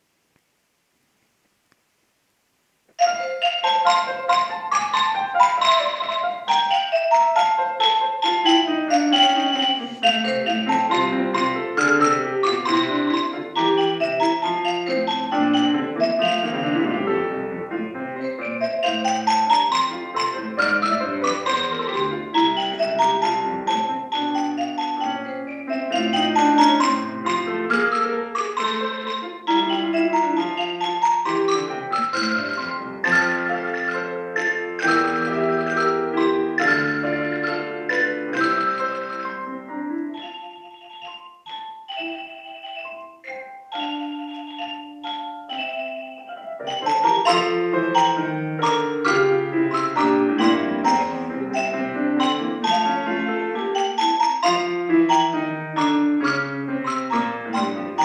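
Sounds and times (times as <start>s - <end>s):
mallet percussion runs: 3.0s - 17.1s, 18.2s - 58.0s
piano chords: 3.0s - 58.0s.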